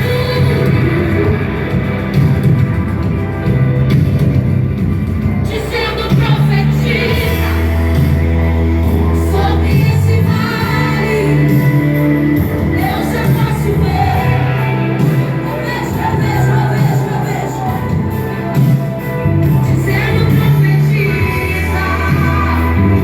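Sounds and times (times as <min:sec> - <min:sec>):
worship song with singing: 0:00.0 - 0:01.9, 0:05.4 - 0:23.0.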